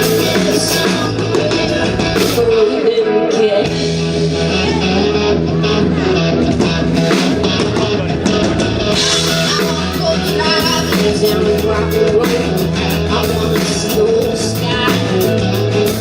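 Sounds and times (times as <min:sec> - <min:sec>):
steady drum beat: 0:00.0 - 0:02.8, 0:03.7 - 0:16.0
electric guitar: 0:00.0 - 0:16.0
live rock band playing: 0:00.0 - 0:16.0.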